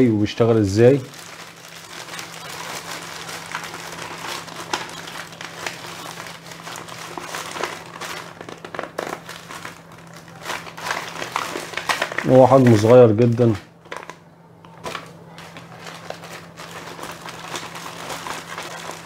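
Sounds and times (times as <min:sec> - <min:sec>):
plastic bag crinkling: 0:00.5 - 0:14.2, 0:14.8 - 0:19.0.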